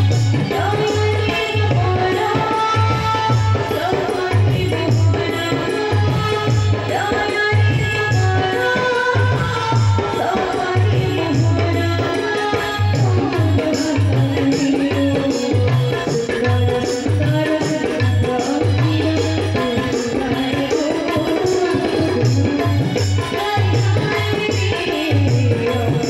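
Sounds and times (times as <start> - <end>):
drums keeping a steady beat: 0.0 - 26.0
loud amplified backing music: 0.0 - 26.0
woman singing into a microphone: 0.0 - 26.0.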